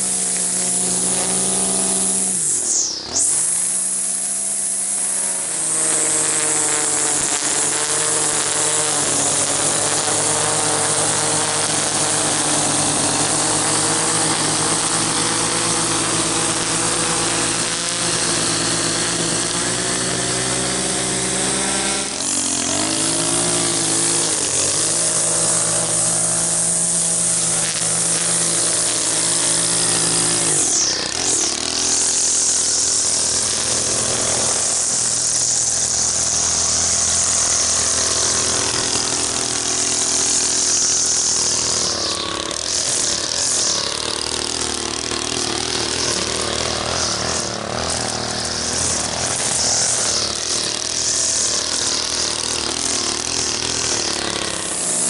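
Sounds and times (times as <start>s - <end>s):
string trimmer cutting grass: 0.0s - 55.0s.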